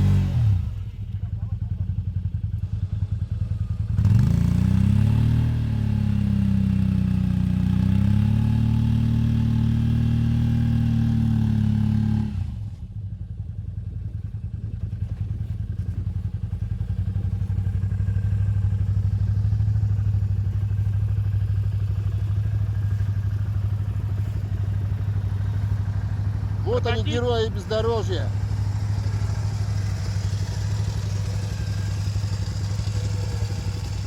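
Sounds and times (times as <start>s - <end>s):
engine idling and revving: 0.0s - 34.0s.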